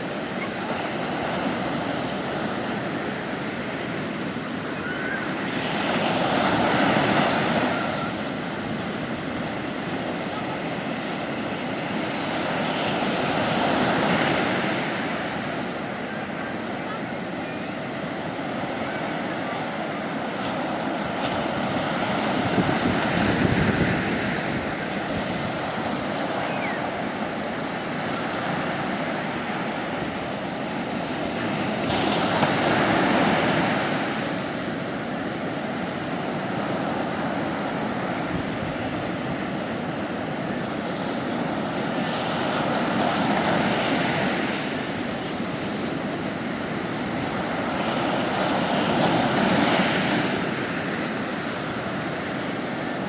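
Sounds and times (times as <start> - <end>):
sea waves breaking on beach: 0.0 - 53.0.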